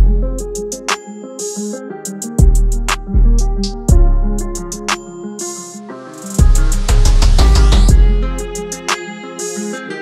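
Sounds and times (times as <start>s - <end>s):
hip-hop music: 0.0s - 10.0s.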